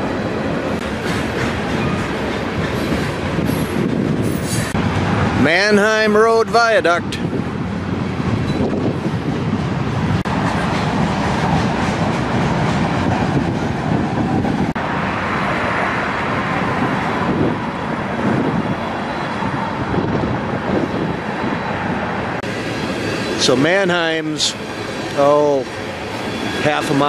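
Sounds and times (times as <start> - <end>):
freight train rolling past: 0.0 - 27.0.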